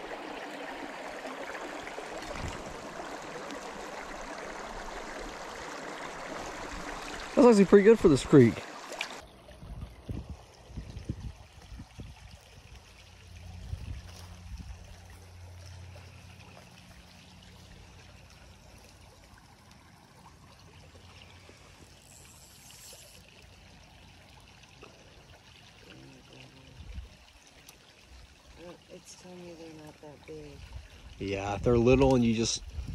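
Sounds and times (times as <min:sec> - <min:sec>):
creek water trickling: 0:00.0 - 0:32.9.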